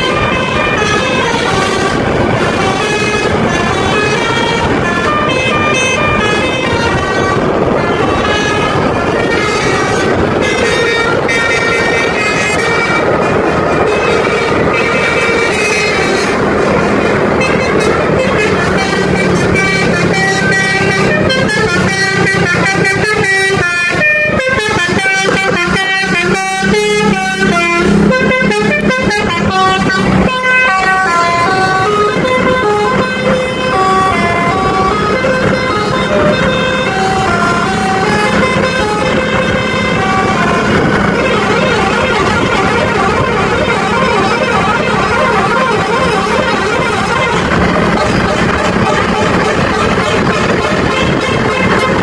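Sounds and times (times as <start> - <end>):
bus engine running: 0.0 - 52.0
multi-tone air horn melody: 0.0 - 52.0.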